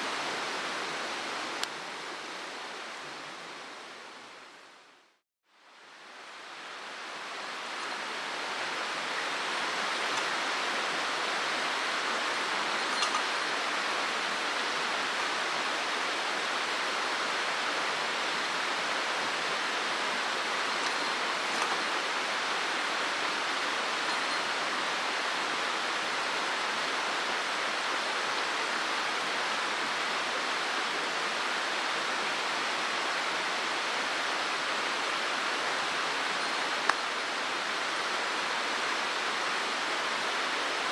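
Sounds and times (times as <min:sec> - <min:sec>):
stream rushing over rocks: 0:00.0 - 0:05.0, 0:05.6 - 0:40.9.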